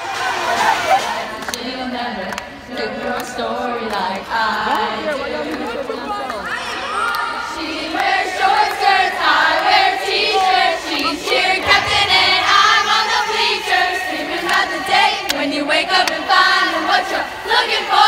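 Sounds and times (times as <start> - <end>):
girls singing and chanting: 0.6 - 18.0.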